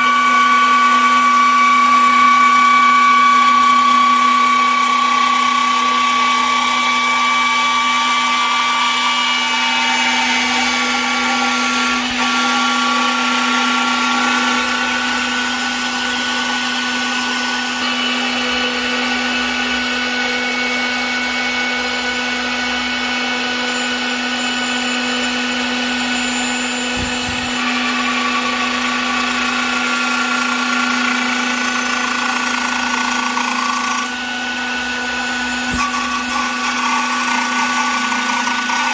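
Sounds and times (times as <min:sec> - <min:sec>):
cnc spindle whine: 0:00.0 - 0:38.9
machining noise: 0:07.4 - 0:38.9.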